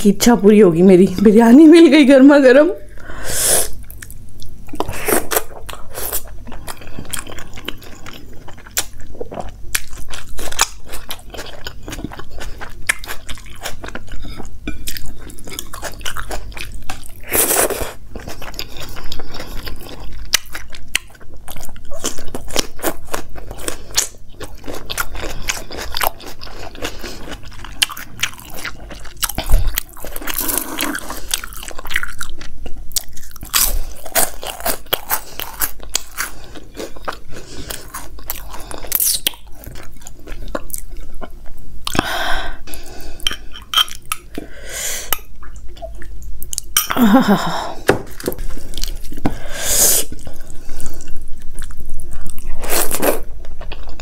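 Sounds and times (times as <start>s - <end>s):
person chewing food: 3.6s - 54.0s.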